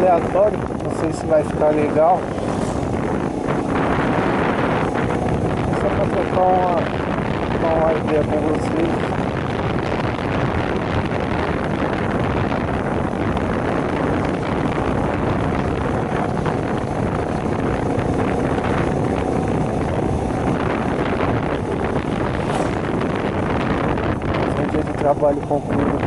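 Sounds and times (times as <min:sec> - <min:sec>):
moped engine running: 0:00.0 - 0:25.9
wind buffeting microphone: 0:00.0 - 0:26.0.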